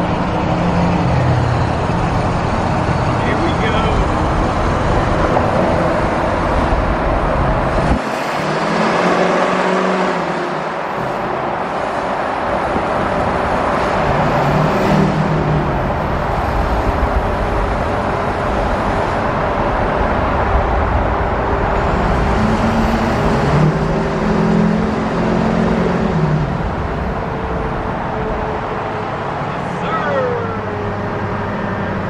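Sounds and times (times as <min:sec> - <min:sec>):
road and traffic noise: 0:00.0 - 0:32.0.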